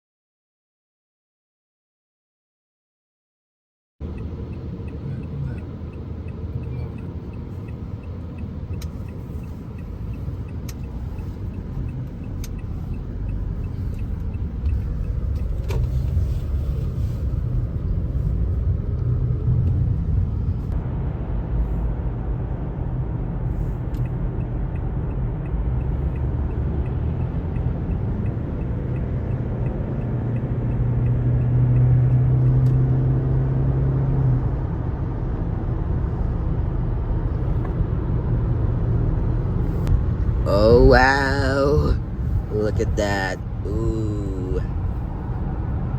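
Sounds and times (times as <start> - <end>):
vehicle rumble from inside: 4.0 - 45.9.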